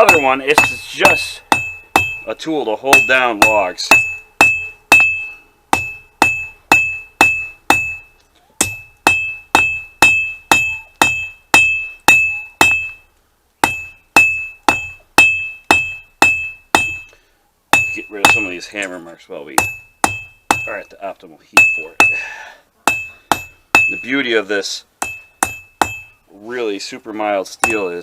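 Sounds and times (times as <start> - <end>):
hammer striking steel on anvil: 0.0 - 13.0, 13.6 - 17.1, 17.7 - 19.0, 19.6 - 20.9, 21.6 - 22.3, 22.9 - 24.2, 25.0 - 26.2, 27.6 - 28.0.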